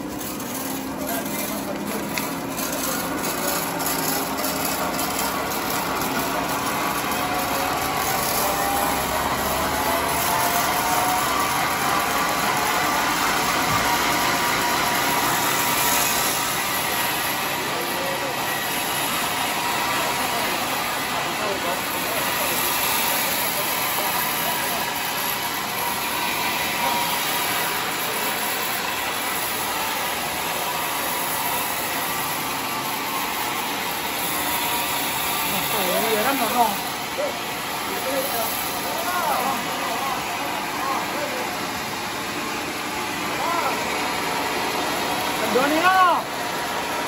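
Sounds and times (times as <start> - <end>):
band saw running: 0.0 - 47.0
sawmill machinery whirring: 0.0 - 47.0.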